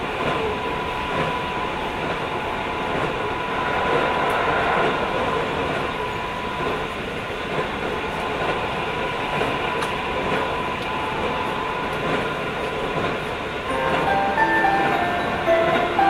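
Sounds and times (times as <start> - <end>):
thin steady whine: 0.0 - 16.0
train wheels rumbling on track: 0.0 - 16.0.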